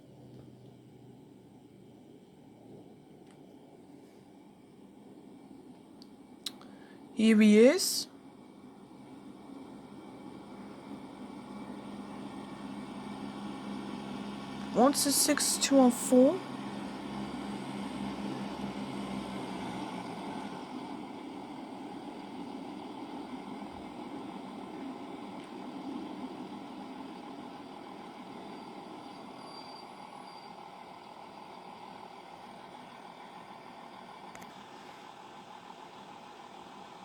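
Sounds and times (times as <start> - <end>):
train engine and wheel rumble: 0.0 - 37.0.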